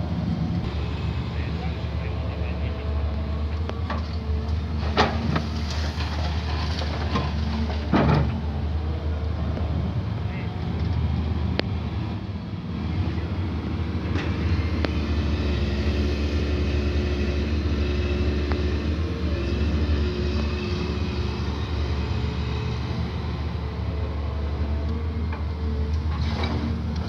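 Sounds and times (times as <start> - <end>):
excavator engine running: 0.0 - 27.0
truck diesel engine running: 0.0 - 27.0.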